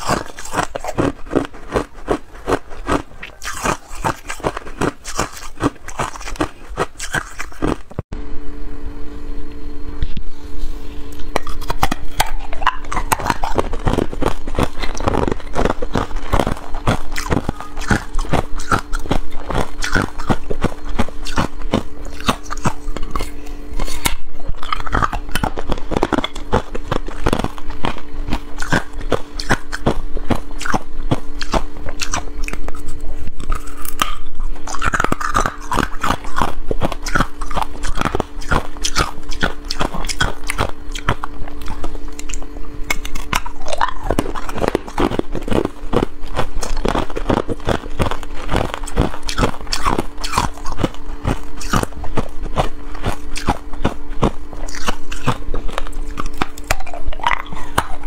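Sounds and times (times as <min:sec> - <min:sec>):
ice cubes crunching: 0:00.0 - 0:08.0, 0:11.3 - 0:58.0
steady hum: 0:00.0 - 0:58.0.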